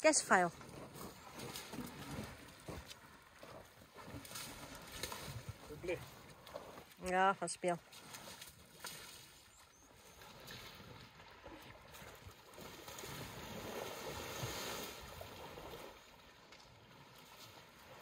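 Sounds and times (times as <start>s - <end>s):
water at a waterhole: 0.0s - 18.0s
wind: 0.0s - 18.0s.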